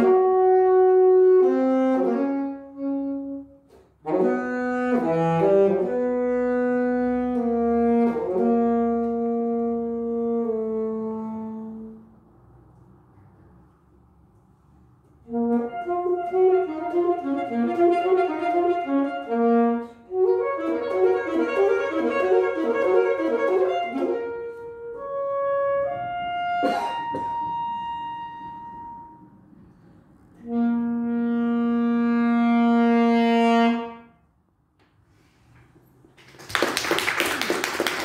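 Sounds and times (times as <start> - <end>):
solo saxophone: 0.0 - 12.3, 15.2 - 34.4.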